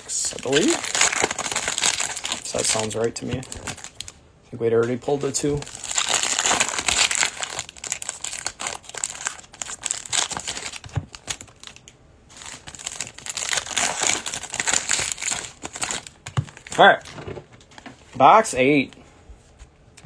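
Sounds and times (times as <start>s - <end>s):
plastic wrapping crinkling: 0.0s - 4.2s, 4.8s - 18.2s.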